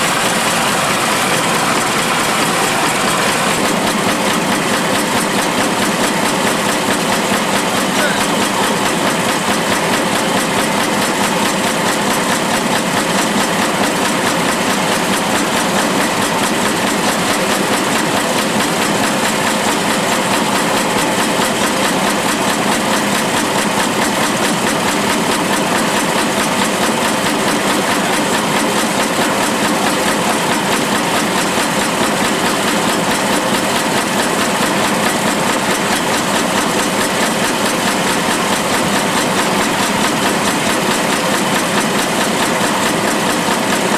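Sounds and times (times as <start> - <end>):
shaking table mechanical clatter: 0.0 - 43.9.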